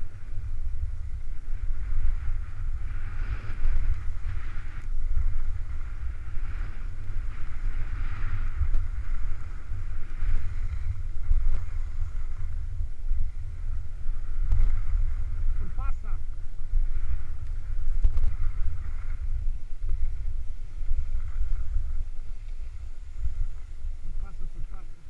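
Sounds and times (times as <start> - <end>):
wind buffeting microphone: 0.0 - 25.0
skis scraping on packed snow: 0.1 - 25.0.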